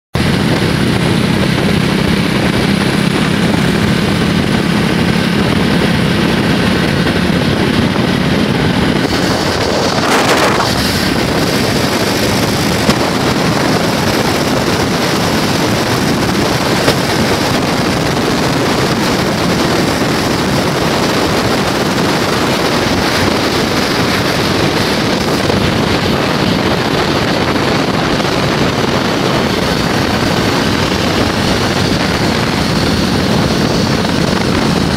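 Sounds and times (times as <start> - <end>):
engine noise: 0.1 - 34.9
wind buffeting microphone: 0.2 - 34.9.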